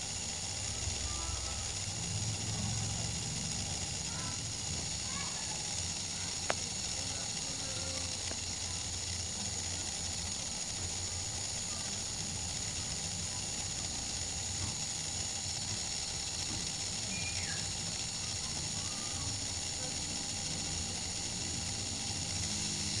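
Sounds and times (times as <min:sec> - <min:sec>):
small motor whirring: 0:00.0 - 0:23.0.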